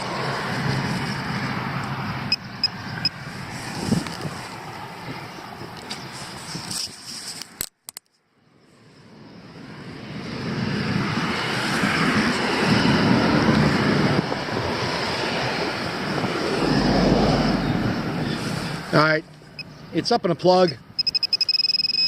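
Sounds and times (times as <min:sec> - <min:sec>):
passing traffic: 0:00.0 - 0:22.0
wind: 0:00.0 - 0:22.0.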